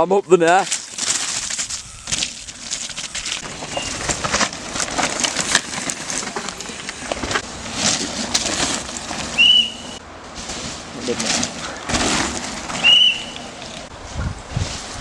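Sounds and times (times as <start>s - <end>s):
tyres crunching on dirt: 0.3s - 15.0s
bike rattling: 0.5s - 15.0s.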